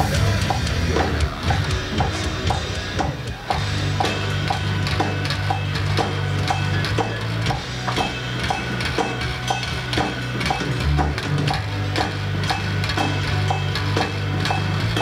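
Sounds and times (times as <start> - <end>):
electric bass low notes: 0.0 - 15.0
steady ticking: 0.0 - 15.0.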